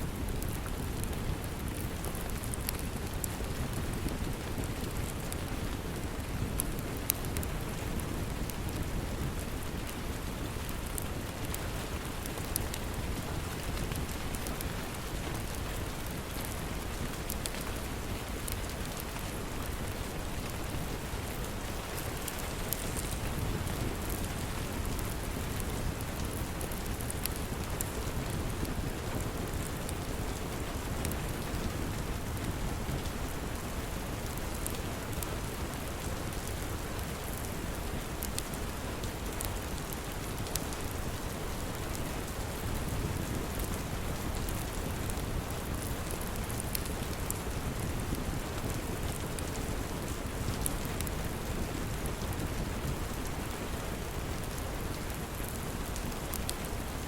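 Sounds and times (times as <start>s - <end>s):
steady rain falling: 0.0s - 57.0s
wood fire crackles: 0.0s - 57.0s.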